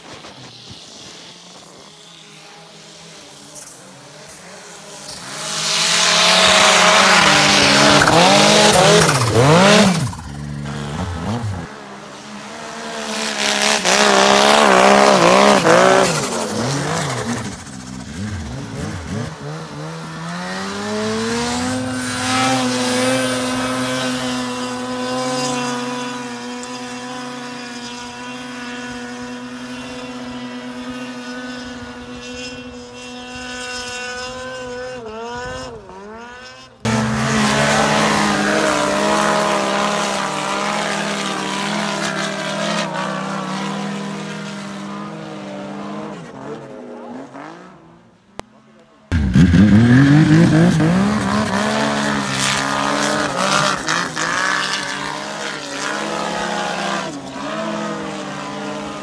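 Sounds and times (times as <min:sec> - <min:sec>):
snowmobile engines revving: 0:00.0 - 0:59.0.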